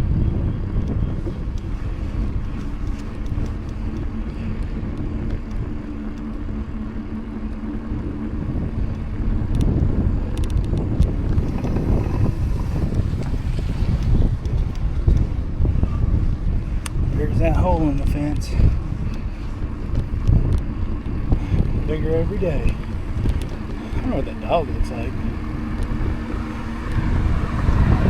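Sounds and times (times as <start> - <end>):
bike tyre rumble on pavement: 0.0 - 28.0
faint steady hum: 0.0 - 28.0
wind noise on microphone: 0.0 - 28.0.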